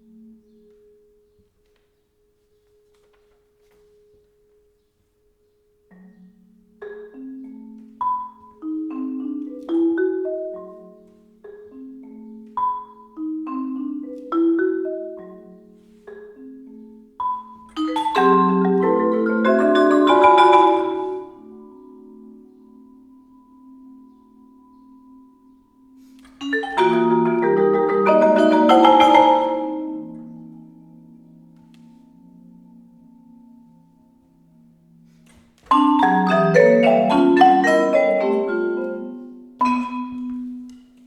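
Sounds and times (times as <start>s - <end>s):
marimbas and vibraphone playing: 5.8s - 41.0s.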